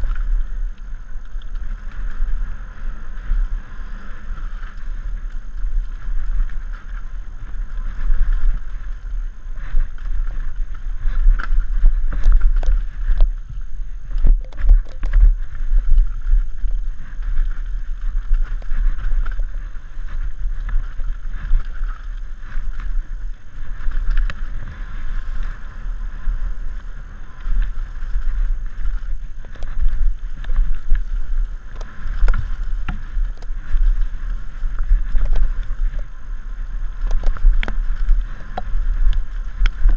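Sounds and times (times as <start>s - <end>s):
bike knocking and rattling on bumps: 0.0s - 39.9s
rushing rumble of wind and tyres: 0.0s - 39.9s.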